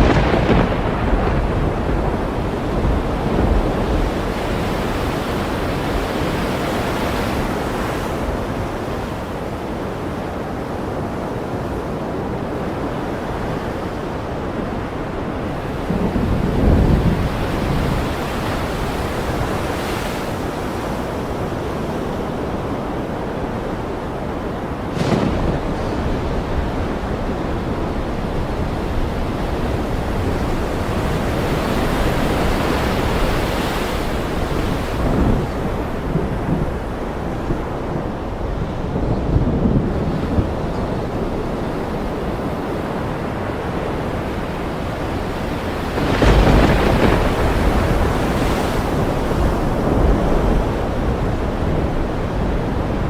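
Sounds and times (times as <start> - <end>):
ocean surf washing: 0.0 - 53.0.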